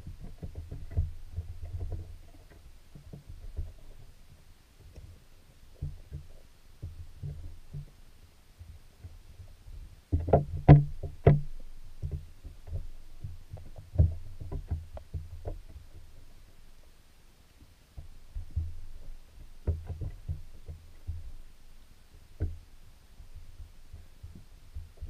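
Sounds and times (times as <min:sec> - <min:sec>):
muffled underwater knocks: 0:00.0 - 0:04.1, 0:05.7 - 0:08.0, 0:08.6 - 0:16.3, 0:18.0 - 0:21.4, 0:22.4 - 0:25.0.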